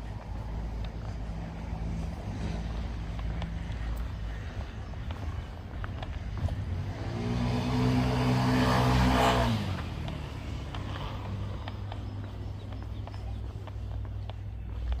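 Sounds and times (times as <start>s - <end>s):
vehicle passing by: 0.0s - 13.2s.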